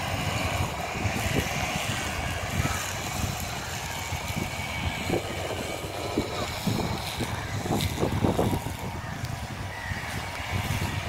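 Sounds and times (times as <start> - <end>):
distant train rumble: 0.0 - 11.0
wind buffeting microphone: 0.0 - 11.0.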